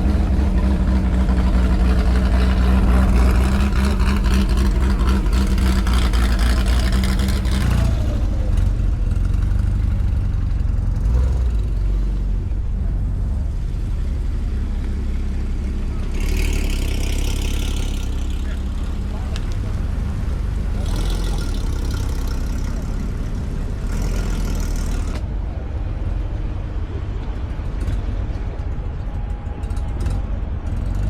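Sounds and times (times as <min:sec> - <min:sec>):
car engine rumbling: 0:00.0 - 0:31.0.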